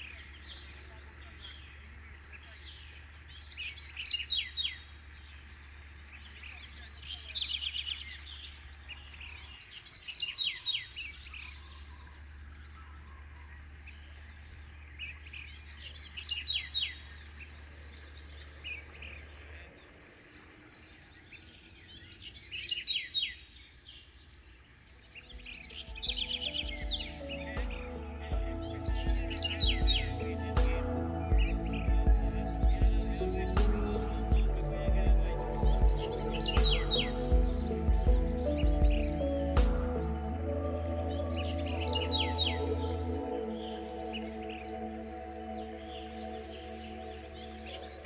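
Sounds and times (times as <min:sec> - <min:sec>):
birds chirping and whistling: 0:00.0 - 0:48.0.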